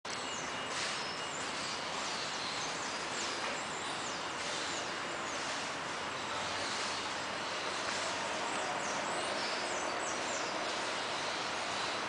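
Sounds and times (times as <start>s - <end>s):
outdoor background hiss: 0.1s - 12.0s
small birds chirping: 0.1s - 12.0s.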